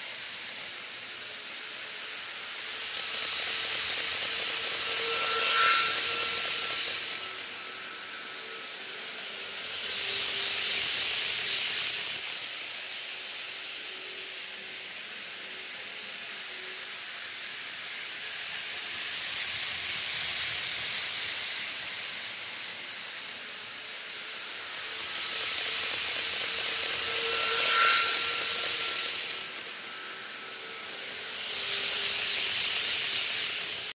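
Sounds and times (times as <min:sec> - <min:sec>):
model trains whirring on track: 0:00.0 - 0:33.9
thin steady high tone: 0:00.0 - 0:33.9.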